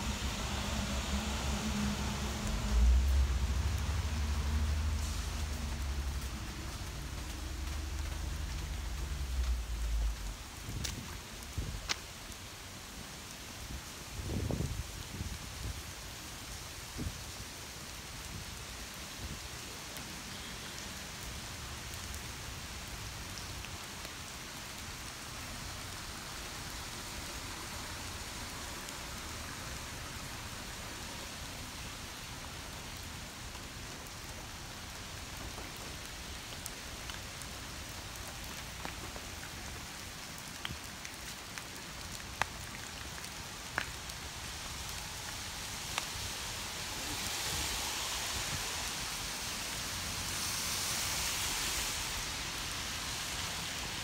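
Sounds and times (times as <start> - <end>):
rain on pavement and cars: 0.0 - 54.0.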